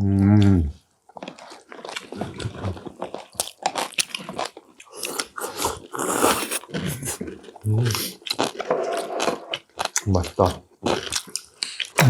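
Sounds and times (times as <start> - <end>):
people chewing crisp food: 0.0 - 12.0.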